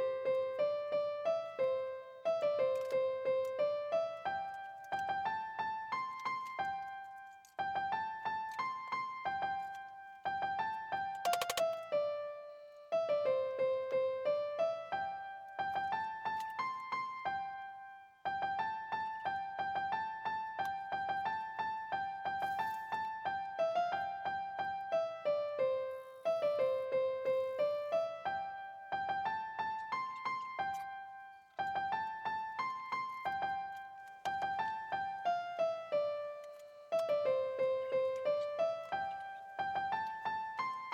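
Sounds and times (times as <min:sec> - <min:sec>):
electric piano melody: 0:00.0 - 0:40.9.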